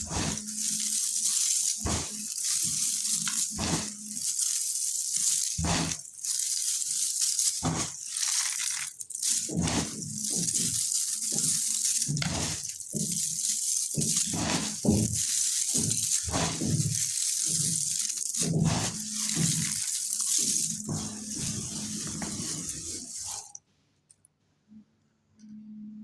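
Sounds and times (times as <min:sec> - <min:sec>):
dry earth lumps crunching: 0:00.0 - 0:23.3.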